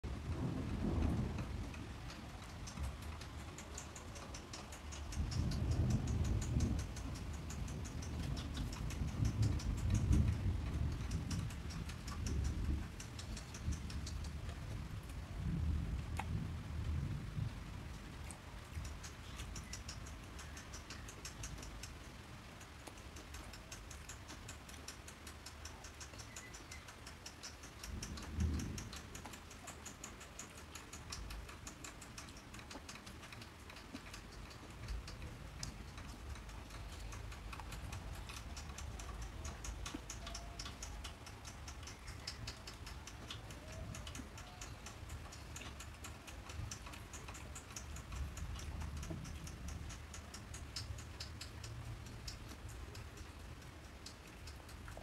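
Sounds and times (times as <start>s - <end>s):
man chewing food: 0.0s - 16.4s, 18.1s - 55.0s.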